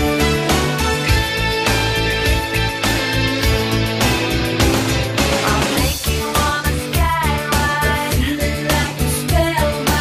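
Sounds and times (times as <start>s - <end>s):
background music with beat and guitar: 0.0s - 10.0s.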